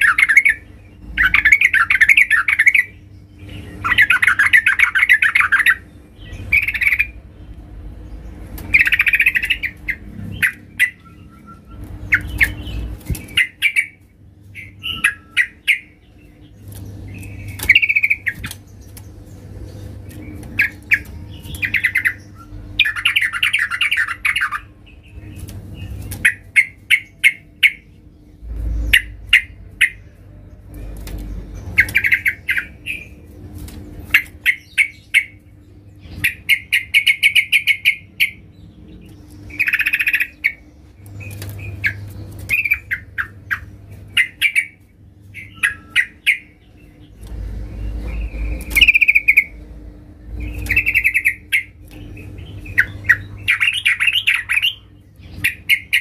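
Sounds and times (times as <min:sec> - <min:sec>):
bird chattering calls: 0:00.0 - 0:07.3, 0:08.6 - 0:18.7, 0:19.8 - 0:27.9, 0:31.6 - 0:33.2, 0:34.1 - 0:49.6, 0:50.3 - 0:56.0
faint steady hum: 0:00.0 - 0:56.0.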